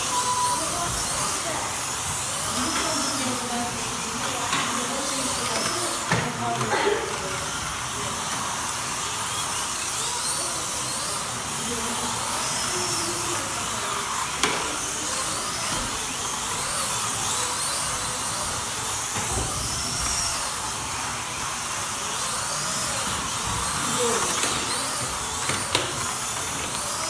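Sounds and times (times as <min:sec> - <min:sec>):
slot car motors whining: 0:00.0 - 0:27.0.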